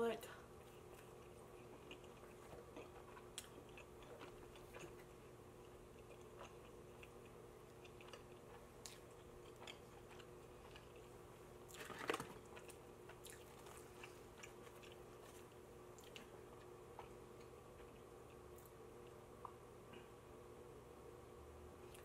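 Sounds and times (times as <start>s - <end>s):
person chewing: 0.5s - 19.6s.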